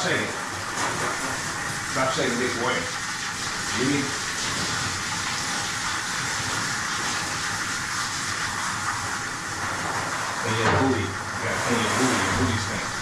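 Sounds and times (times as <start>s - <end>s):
water spraying from hose nozzle: 0.0s - 13.0s.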